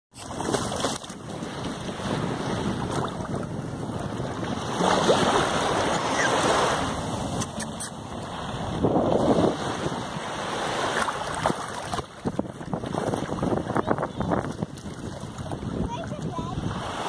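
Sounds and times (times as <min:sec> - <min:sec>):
sea water lapping: 0:00.2 - 0:17.0
wind buffeting microphone: 0:00.4 - 0:17.0.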